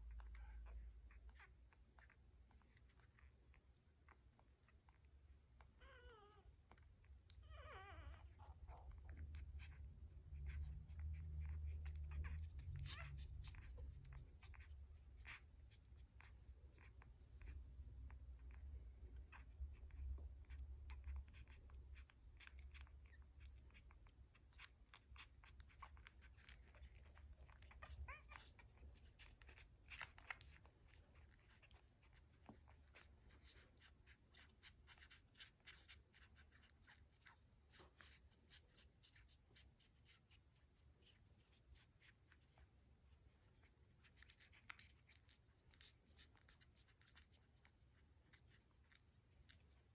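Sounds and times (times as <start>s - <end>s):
puppies suckling: 0.0s - 49.9s.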